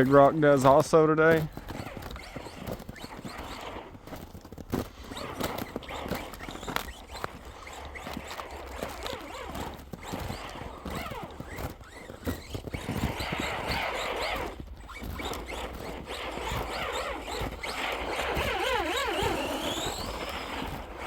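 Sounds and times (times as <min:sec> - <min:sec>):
electric motor whining: 0:00.0 - 0:21.0
tyres crunching in snow: 0:00.0 - 0:21.0.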